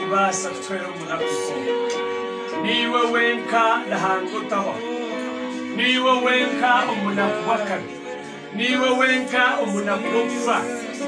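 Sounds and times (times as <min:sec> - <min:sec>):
held instrumental chords: 0:00.0 - 0:11.0
person singing: 0:00.0 - 0:11.0.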